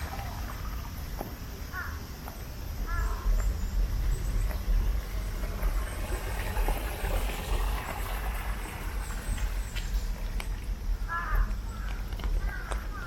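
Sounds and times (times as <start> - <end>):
steady low rumble: 0.0 - 13.0
tyre hiss on wet road: 0.0 - 13.0.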